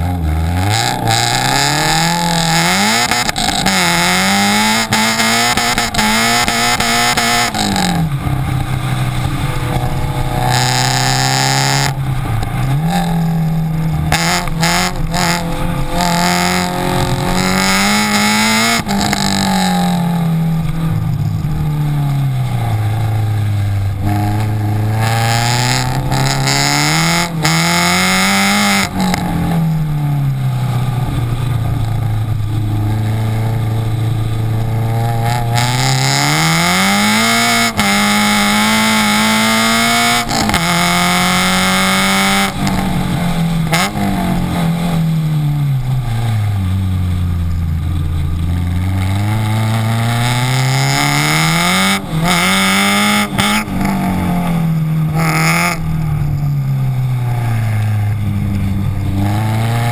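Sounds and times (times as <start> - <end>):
car exhaust revving: 0.0 - 59.9.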